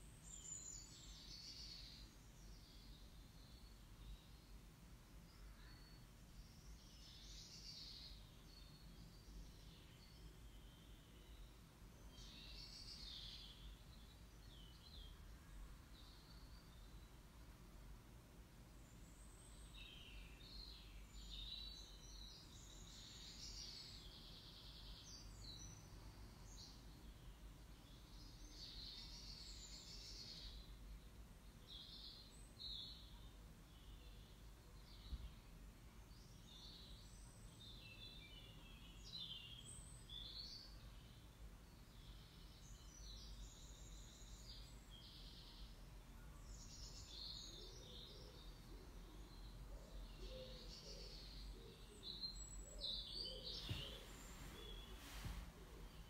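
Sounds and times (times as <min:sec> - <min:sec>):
faint bird chirps: 0:00.0 - 0:17.3, 0:18.8 - 0:56.0.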